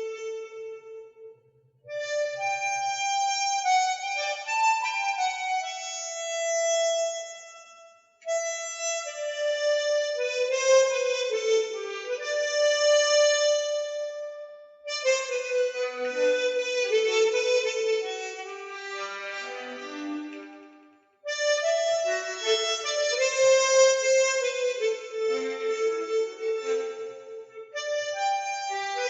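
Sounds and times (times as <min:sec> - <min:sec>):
harmonica playing slow melody: 0:00.0 - 0:01.3, 0:01.9 - 0:29.0.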